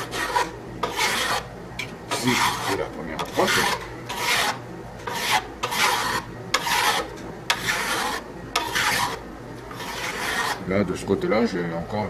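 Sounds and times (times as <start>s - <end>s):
file rasping on steel: 0.0s - 1.5s, 2.1s - 10.7s.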